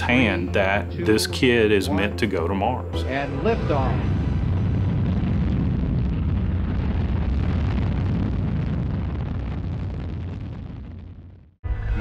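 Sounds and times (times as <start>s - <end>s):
rocket engines rumbling: 0.1s - 11.3s.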